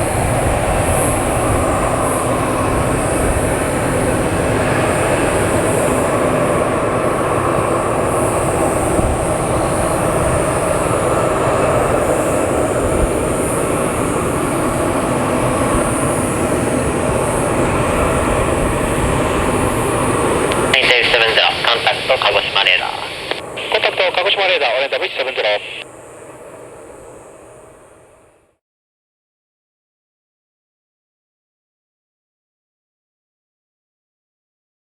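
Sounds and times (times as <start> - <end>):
turboprop plane taking off: 0.0 - 28.4.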